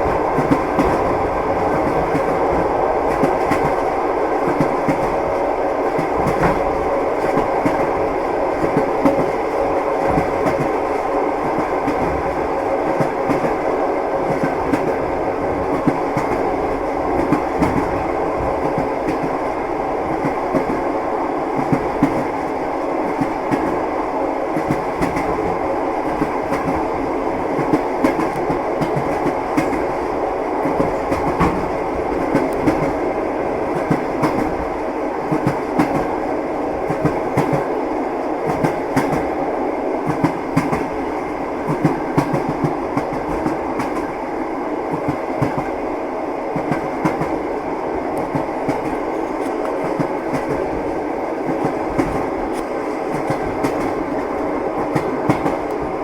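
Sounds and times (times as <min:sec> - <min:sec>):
train wheels clattering on rails: 0:00.0 - 0:23.9, 0:24.5 - 0:39.4, 0:40.0 - 0:44.3, 0:44.9 - 0:45.9, 0:46.5 - 0:56.0.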